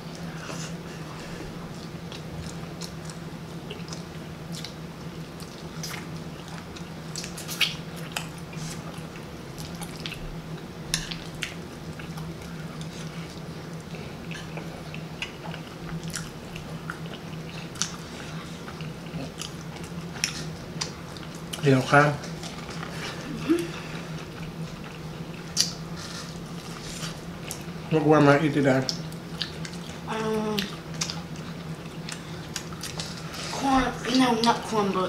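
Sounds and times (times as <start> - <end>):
steady low hum: 0.0 - 35.0
chewing and lip smacking: 1.7 - 23.2, 24.2 - 27.7, 28.8 - 33.3.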